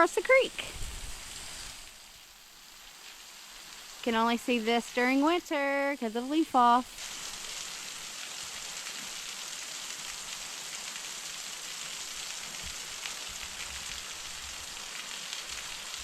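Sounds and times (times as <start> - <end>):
waterfall splashing: 2.9 - 16.0.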